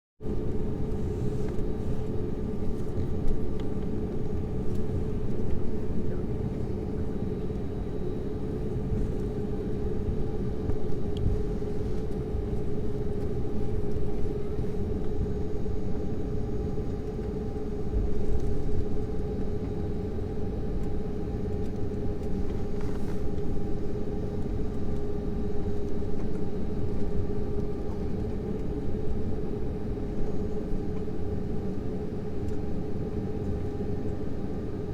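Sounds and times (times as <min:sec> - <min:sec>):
constant droning hum: 0:00.2 - 0:34.9
jet engines rumbling in cabin: 0:00.2 - 0:34.9.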